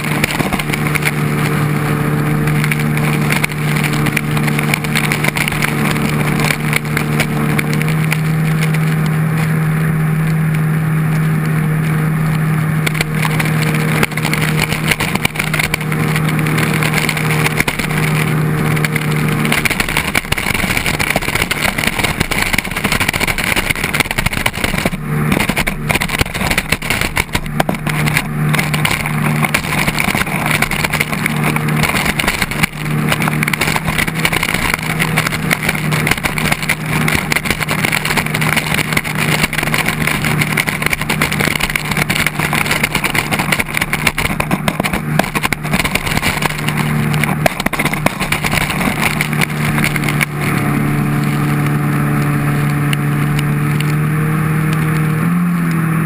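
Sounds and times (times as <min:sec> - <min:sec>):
jet ski engine running: 0:00.0 - 0:56.0
spray and churning water: 0:00.0 - 0:56.0.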